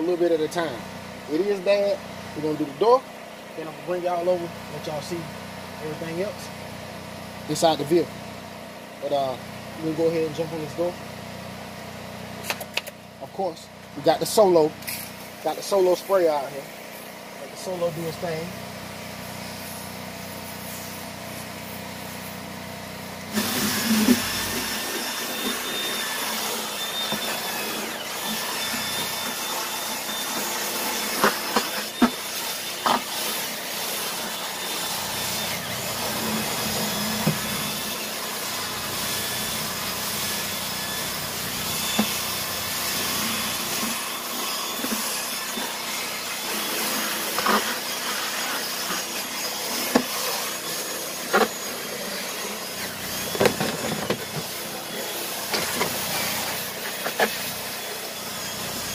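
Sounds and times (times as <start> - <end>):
drill spinning a scrub brush: 0.0 - 58.9.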